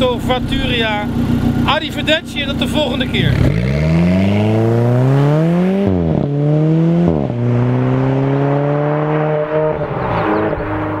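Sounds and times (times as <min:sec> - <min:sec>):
car engine accelerating hard: 0:00.6 - 0:11.0.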